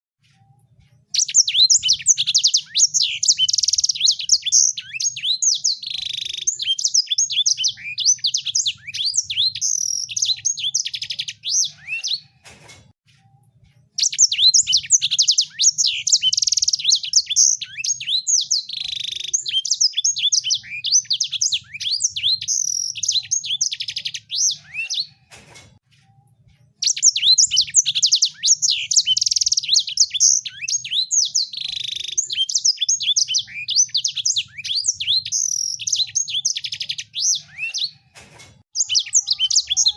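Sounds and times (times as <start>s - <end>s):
songbird chirping and twittering: 0.2s - 12.4s, 13.2s - 25.3s, 26.0s - 39.9s.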